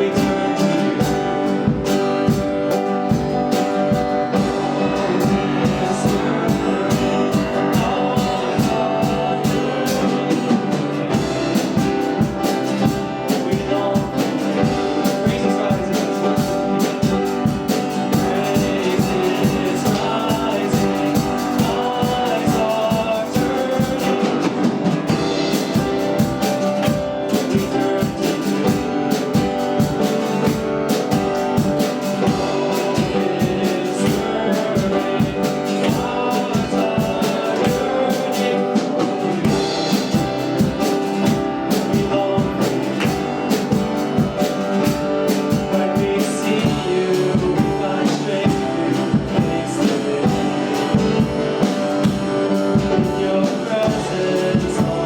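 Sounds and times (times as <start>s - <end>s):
drum kit beat: 0.0s - 55.0s
guitar: 0.0s - 55.0s
live worship band playing: 0.0s - 55.0s.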